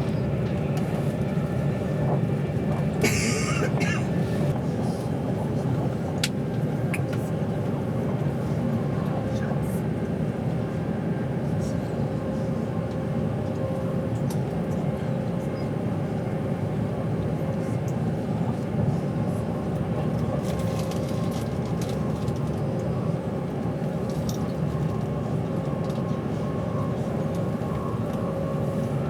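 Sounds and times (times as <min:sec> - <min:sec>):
train rumbling at speed: 0:00.0 - 0:29.0.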